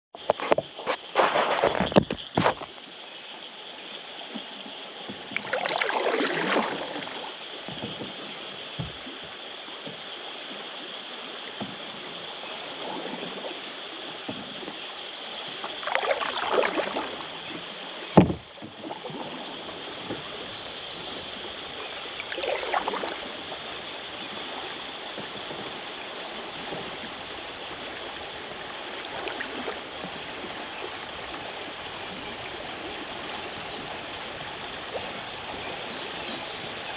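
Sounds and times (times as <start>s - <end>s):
moving water: 0.2s - 36.9s
paddle strokes splashing water: 0.2s - 36.9s.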